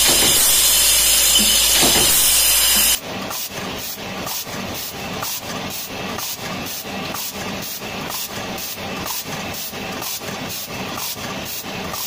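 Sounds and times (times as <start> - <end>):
printing machine pulsing: 0.0 - 12.0.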